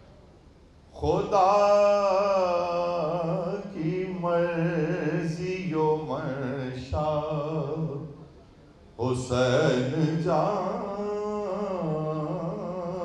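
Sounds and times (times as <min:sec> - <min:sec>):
man reciting sung poetry: 0:00.9 - 0:08.4, 0:09.0 - 0:13.0.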